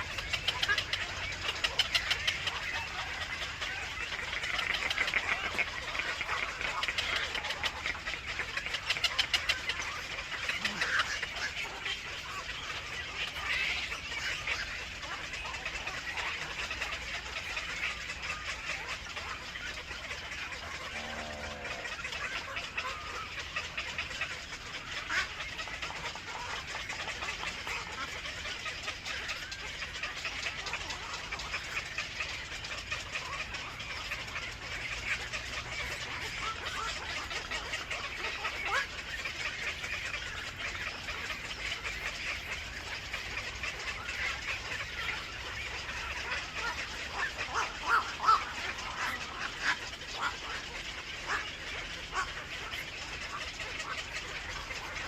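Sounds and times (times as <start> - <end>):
birds chirping: 0.0 - 55.0
lower-pitched bird call: 0.0 - 55.0.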